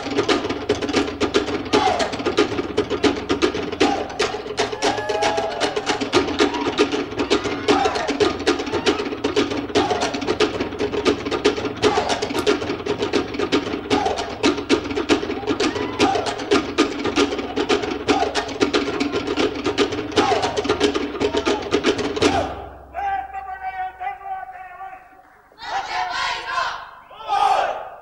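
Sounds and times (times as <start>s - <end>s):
wooden slit drums playing: 0.0s - 24.0s
performers calling: 0.0s - 28.0s.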